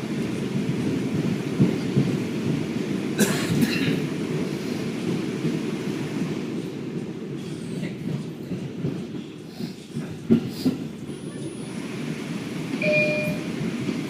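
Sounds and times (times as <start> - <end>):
subway car rumbling: 0.0 - 14.0.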